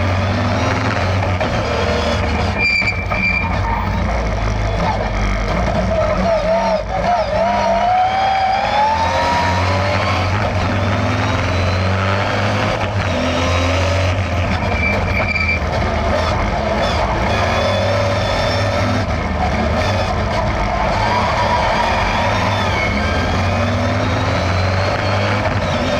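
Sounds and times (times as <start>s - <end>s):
car engine revving and droning: 0.0s - 25.9s.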